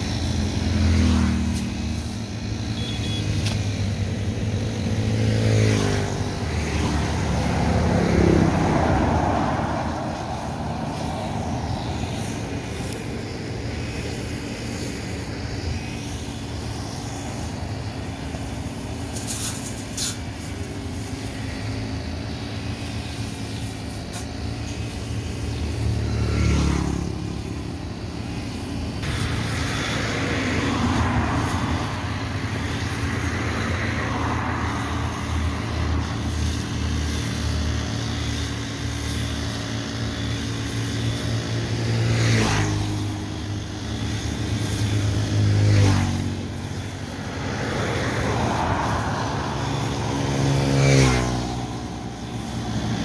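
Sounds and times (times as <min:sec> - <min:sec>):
steady engine drone: 0:00.0 - 0:53.0
vehicles passing: 0:00.0 - 0:53.0.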